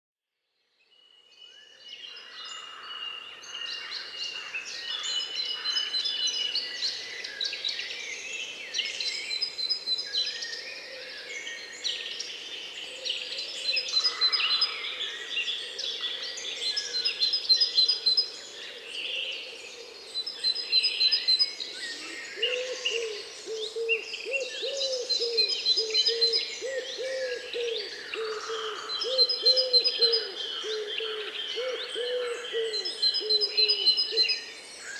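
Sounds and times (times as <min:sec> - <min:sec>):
songbirds chirping and trilling: 0:00.8 - 0:34.9.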